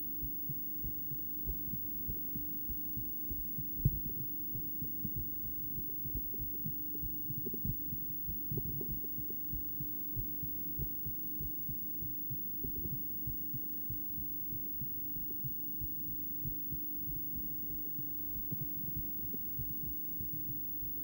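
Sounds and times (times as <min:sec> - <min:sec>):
steady low hum: 0:00.0 - 0:21.0
low pulsing heartbeat: 0:00.1 - 0:21.0.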